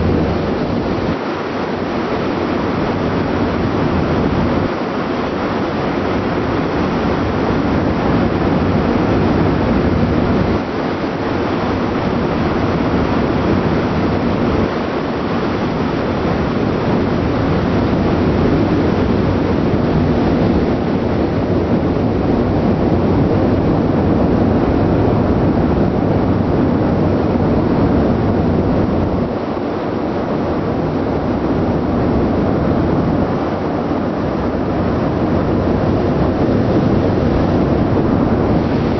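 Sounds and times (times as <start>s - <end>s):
ship engine exhaust rumble: 0.0s - 38.9s
waves: 0.0s - 38.9s
wind: 0.0s - 38.9s.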